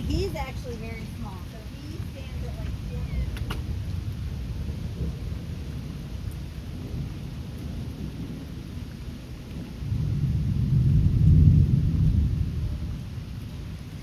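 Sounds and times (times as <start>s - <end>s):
rolling thunder: 0.0s - 14.0s
steady rain: 0.0s - 14.0s.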